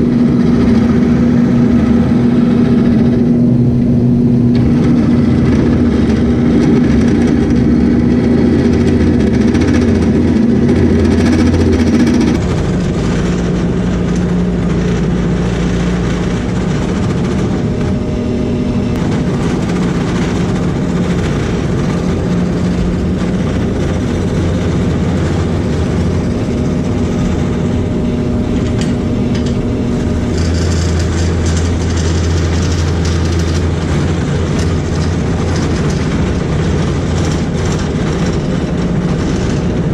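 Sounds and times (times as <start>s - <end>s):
gouge scraping spinning wood: 0.0s - 39.9s
wood lathe motor hum: 0.0s - 39.9s.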